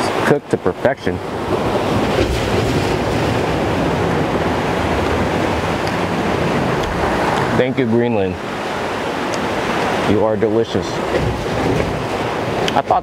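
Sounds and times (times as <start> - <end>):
ocean surf against rocks: 0.0 - 13.0
wind rumbling on microphone: 1.1 - 13.0.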